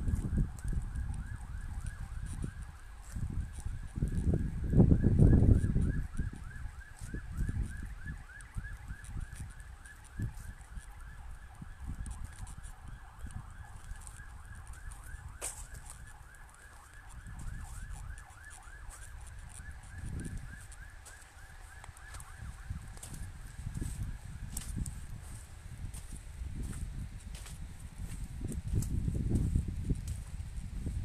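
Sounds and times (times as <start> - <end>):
distant siren sweeping: 0.0 - 31.0.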